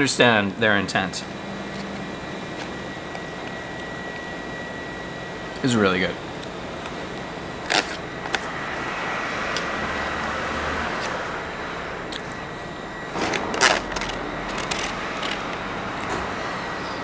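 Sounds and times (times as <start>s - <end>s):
vehicle passing: 0.6s - 4.5s, 6.6s - 17.0s.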